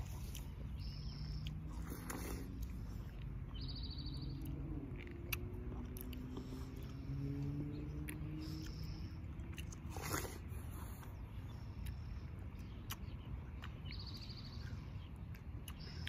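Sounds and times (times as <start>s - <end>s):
chewing watermelon: 0.0s - 16.0s
low steady hum: 0.0s - 16.0s.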